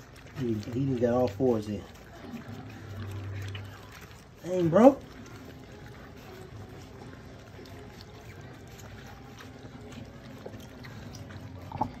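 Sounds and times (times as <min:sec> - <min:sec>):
puppies lapping and slurping: 0:00.0 - 0:12.0.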